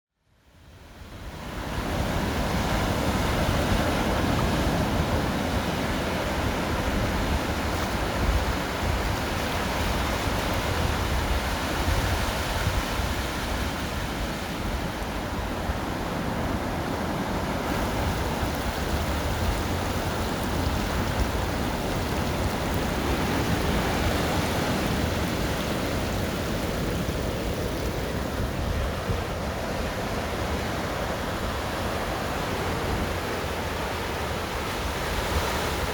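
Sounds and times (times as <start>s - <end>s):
wind: 0.1s - 35.9s
ocean surf washing on beach: 0.7s - 35.9s.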